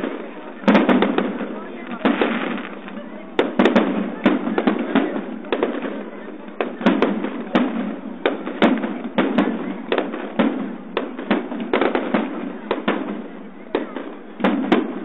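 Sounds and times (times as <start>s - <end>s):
fireworks shell bursts: 0.0s - 15.0s
steady background noise: 0.0s - 15.0s.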